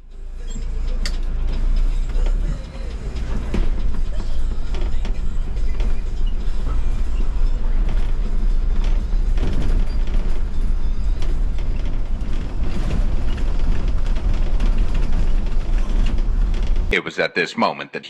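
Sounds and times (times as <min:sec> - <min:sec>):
bodywork rattles and creaks: 0:00.0 - 0:16.9
bus engine and tyres drone: 0:00.0 - 0:16.9.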